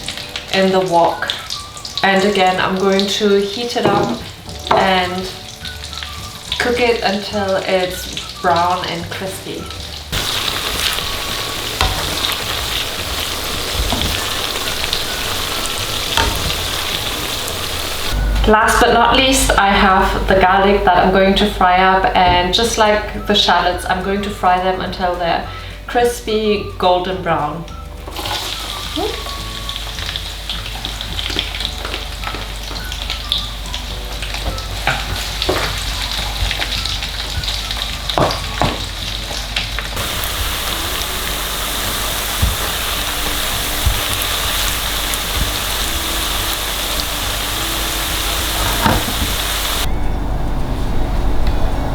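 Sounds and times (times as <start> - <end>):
shallots sizzling in oil: 0.0 - 18.4, 22.7 - 49.9.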